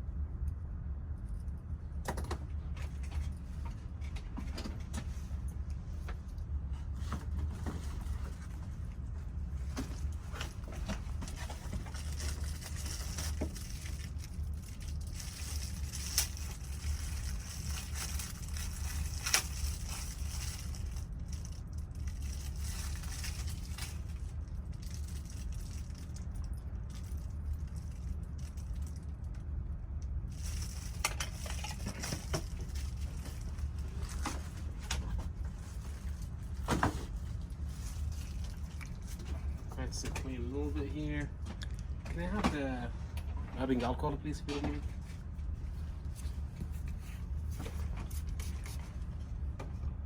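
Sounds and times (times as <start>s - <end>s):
low hum of bench equipment: 0.0s - 50.0s.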